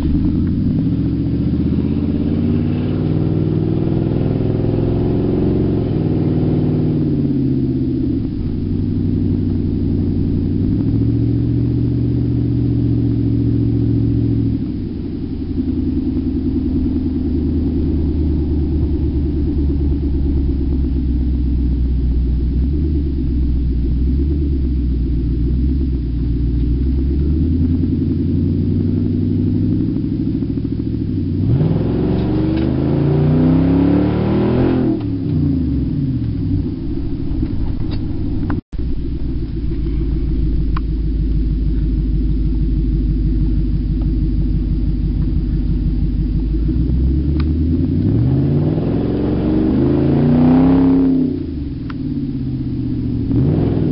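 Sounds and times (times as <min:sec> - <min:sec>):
loud engine drone without exhaust: 0:00.0 - 0:53.9.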